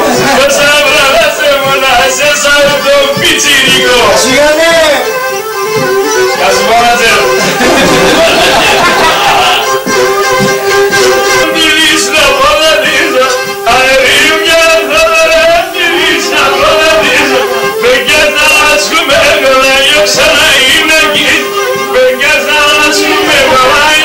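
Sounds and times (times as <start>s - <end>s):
man singing ornamented melody: 0.0s - 5.3s, 6.3s - 24.0s
instruments holding drone note: 0.0s - 24.0s.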